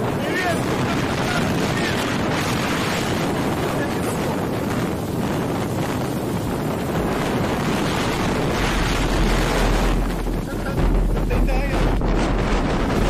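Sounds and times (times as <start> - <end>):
heavy driving rain: 0.0 - 13.0
storm wind: 0.0 - 13.0
wind buffeting microphone: 0.0 - 13.0.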